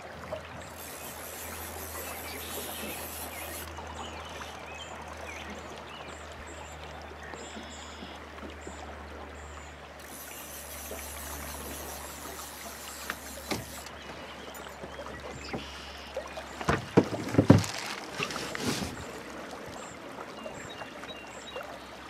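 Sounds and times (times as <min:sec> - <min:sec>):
river water flowing and lapping: 0:00.0 - 0:22.0.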